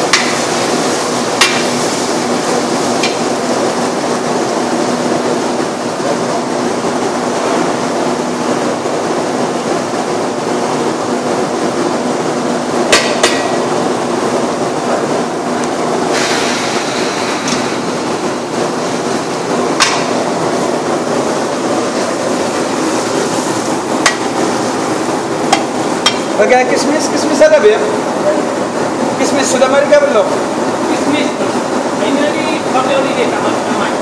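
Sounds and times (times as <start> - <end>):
gas burners roaring: 0.0 - 34.0.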